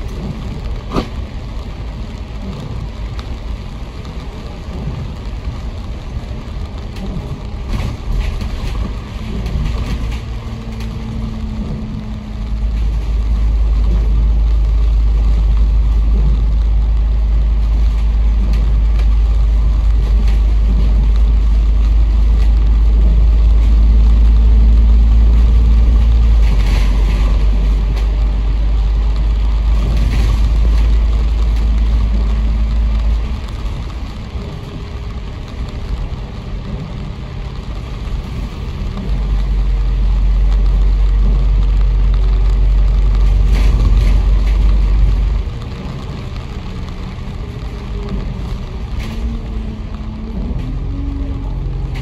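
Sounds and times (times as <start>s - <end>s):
bus diesel engine rumbling: 0.0s - 52.0s.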